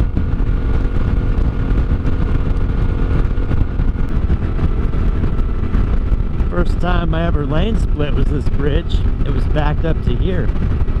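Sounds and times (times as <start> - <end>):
motorcycle engine cruising: 0.0 - 11.0
wind noise rumble: 0.0 - 11.0.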